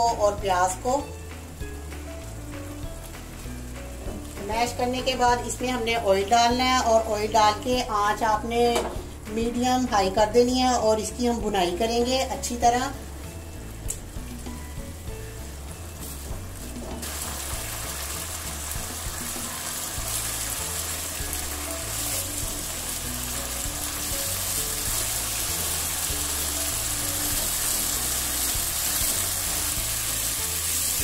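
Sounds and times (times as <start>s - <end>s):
background music: 0.0s - 31.0s
meat sizzling in oil: 0.0s - 31.0s.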